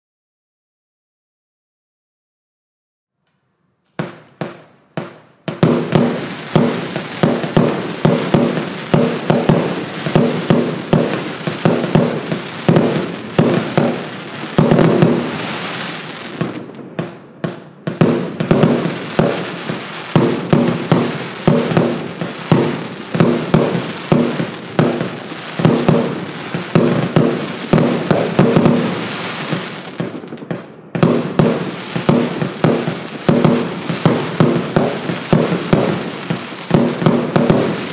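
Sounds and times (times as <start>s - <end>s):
dense fireworks crackle: 4.0s - 37.9s
fireworks volleys and bursts: 4.0s - 37.9s.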